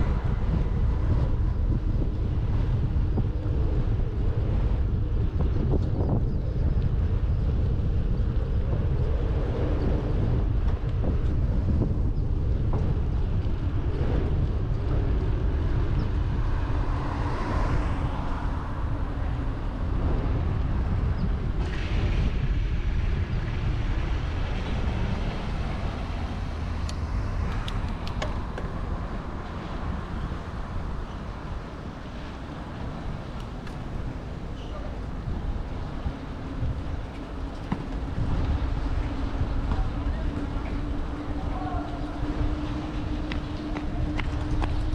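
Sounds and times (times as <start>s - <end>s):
road traffic passing: 0.0s - 44.9s
wind rumble on microphone: 0.0s - 44.9s.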